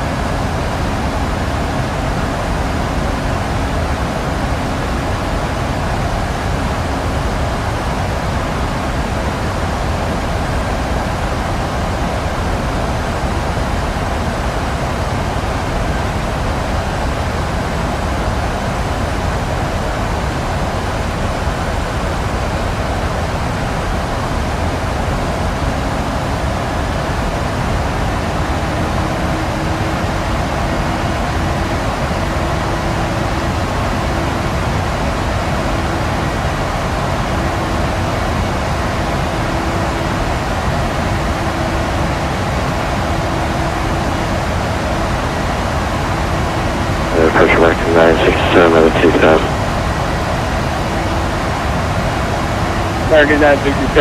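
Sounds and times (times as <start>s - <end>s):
airplane cabin engine and airflow noise: 0.0s - 54.0s.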